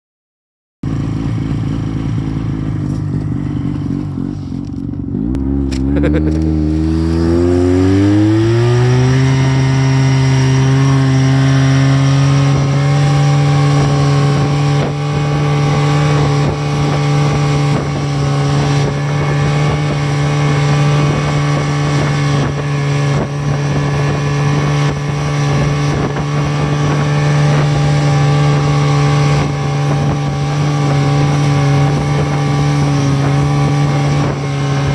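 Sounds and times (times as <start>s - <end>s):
snowmobile engine revving up: 0.9s - 34.9s.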